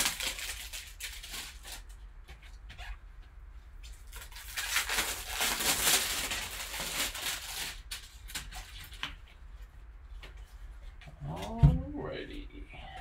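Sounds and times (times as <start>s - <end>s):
paper and plastic packaging rustling: 0.0s - 3.0s, 3.7s - 11.5s.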